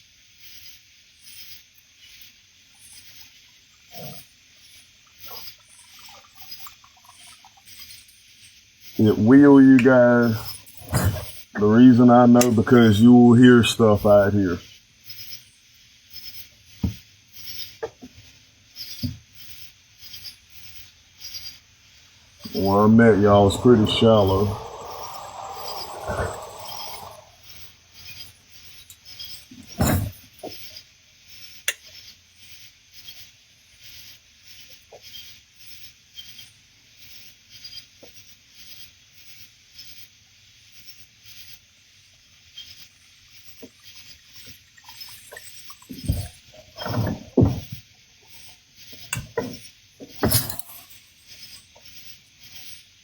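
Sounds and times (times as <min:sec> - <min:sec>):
night insects chirping: 0:00.4 - 0:31.7, 0:32.3 - 0:53.0.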